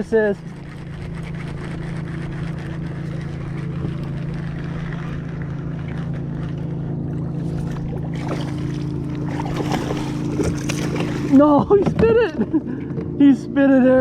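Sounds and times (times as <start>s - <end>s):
low motor hum: 0.0s - 14.0s
water noise: 0.0s - 14.0s
wind: 0.0s - 14.0s.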